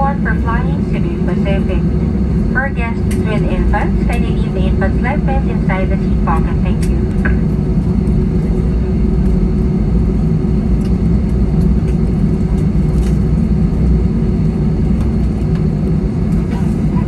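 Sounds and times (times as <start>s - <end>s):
airliner engines droning in cabin: 0.0s - 17.0s.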